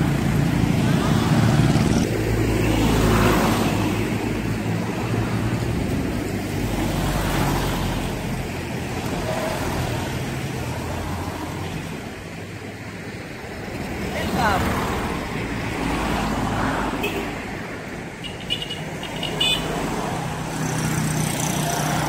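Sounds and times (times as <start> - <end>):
van passing: 0.0 - 22.0.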